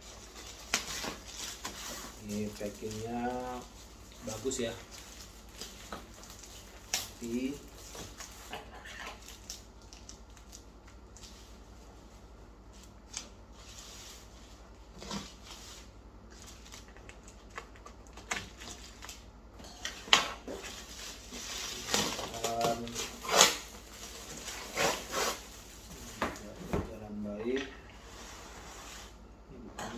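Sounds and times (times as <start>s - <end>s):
packing material rustling: 0.0s - 29.2s.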